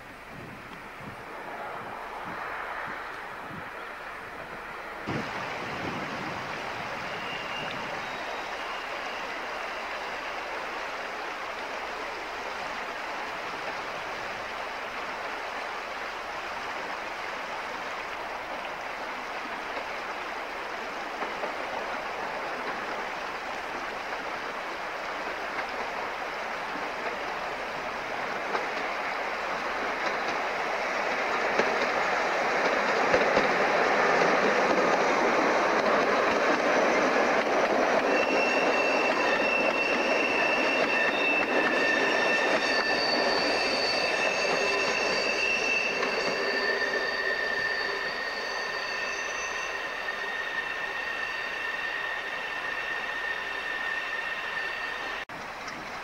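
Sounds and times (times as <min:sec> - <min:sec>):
stream running: 0:00.0 - 0:56.0
train engine and wheel noise: 0:00.0 - 0:56.0.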